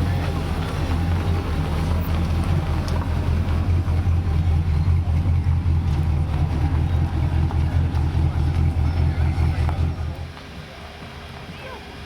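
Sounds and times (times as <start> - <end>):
car engine pulsing exhaust: 0.0 - 12.0.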